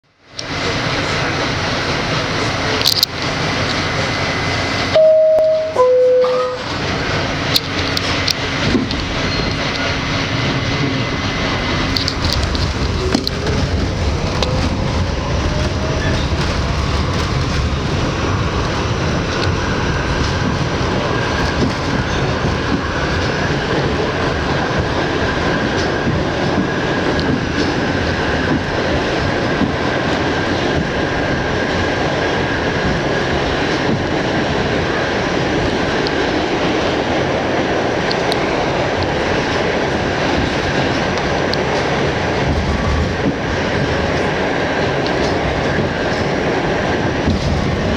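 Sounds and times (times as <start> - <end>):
subway train wheels rumbling: 0.0 - 47.9.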